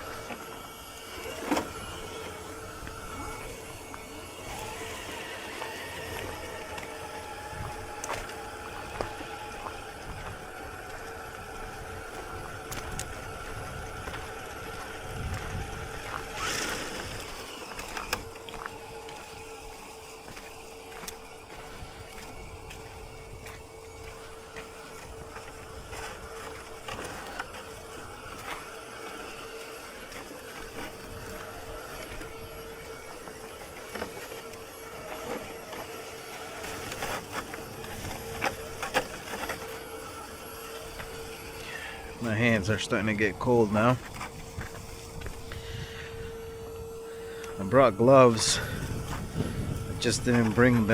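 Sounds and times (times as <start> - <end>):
electric motor whining: 0.0 - 50.9.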